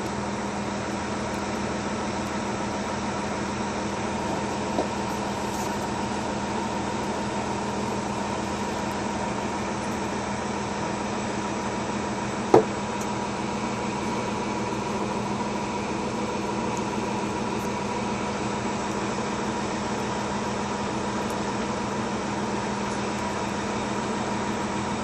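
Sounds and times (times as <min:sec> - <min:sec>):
concrete mixer truck droning: 0:00.0 - 0:25.0.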